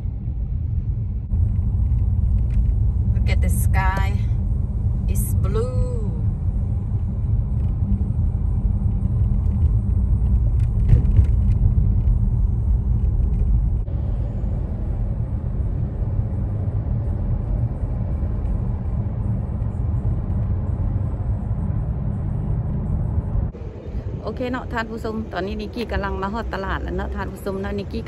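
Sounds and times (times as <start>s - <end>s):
car road rumble: 0.0s - 28.0s.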